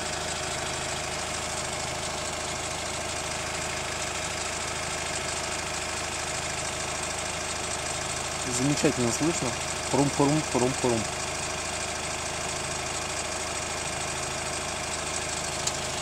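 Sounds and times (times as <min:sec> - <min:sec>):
diesel engine idling: 0:00.0 - 0:16.0
crunching engine knock: 0:00.1 - 0:16.0.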